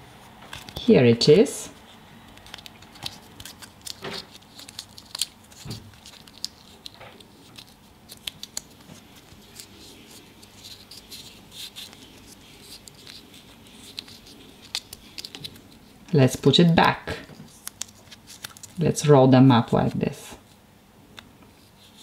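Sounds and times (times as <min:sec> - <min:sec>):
paper crinkling: 0:00.2 - 0:00.9, 0:01.8 - 0:18.8.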